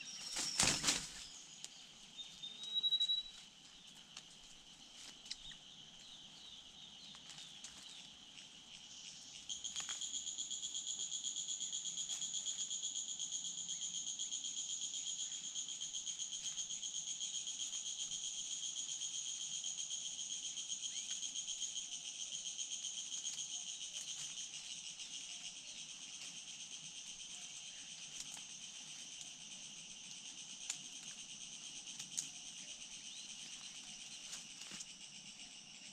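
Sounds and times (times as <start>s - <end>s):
pulsing insect chorus: 0.0s - 35.9s.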